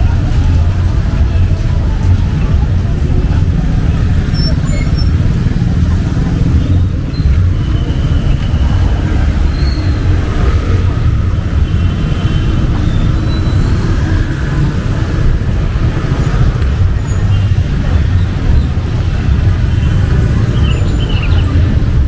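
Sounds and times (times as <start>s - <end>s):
motorbikes and cars passing: 0.0s - 22.0s.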